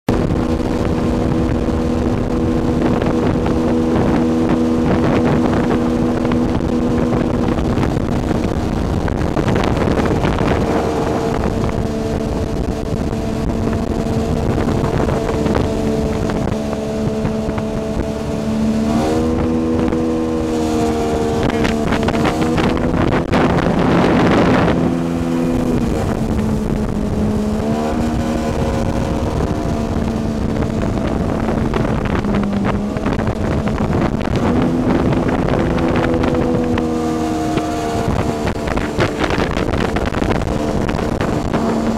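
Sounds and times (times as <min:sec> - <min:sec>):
outboard motor at speed: 0:00.0 - 0:41.9
wind and water rushing: 0:00.1 - 0:41.9.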